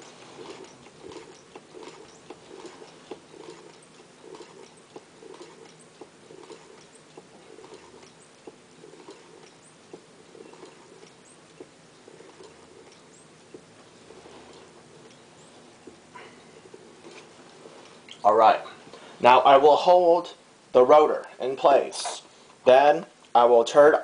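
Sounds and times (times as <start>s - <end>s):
faint rustling: 0.0s - 19.3s.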